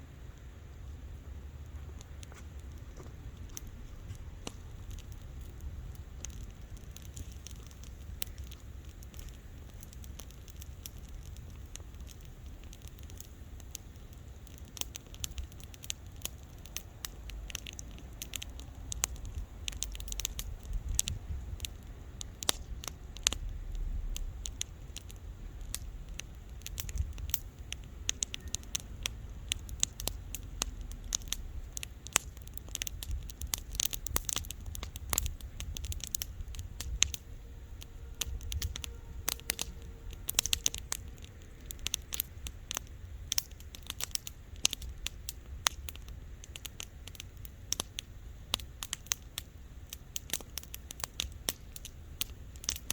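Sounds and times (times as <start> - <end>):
bonfire crackling and popping: 0.0 - 52.9
low steady fire rumble: 0.0 - 52.9.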